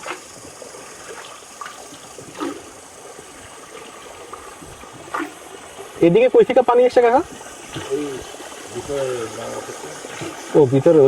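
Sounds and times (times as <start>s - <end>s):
light water splashes: 0.0s - 11.0s
water lapping around boat: 0.0s - 11.0s.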